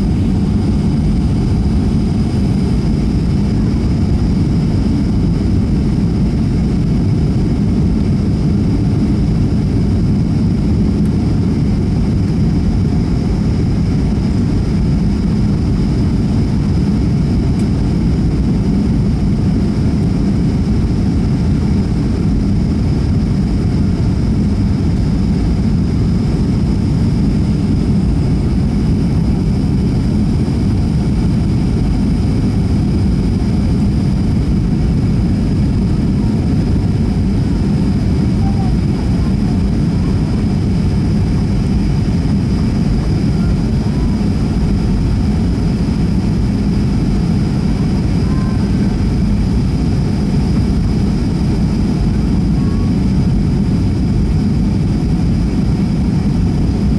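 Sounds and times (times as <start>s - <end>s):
faint high whine: 0.0s - 55.2s
airliner cabin engine rumble: 0.0s - 56.9s.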